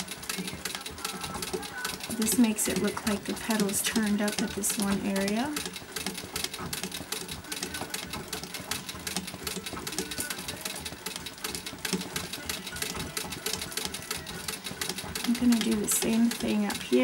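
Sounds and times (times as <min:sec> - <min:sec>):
sewing machine clattering: 0:00.0 - 0:17.0.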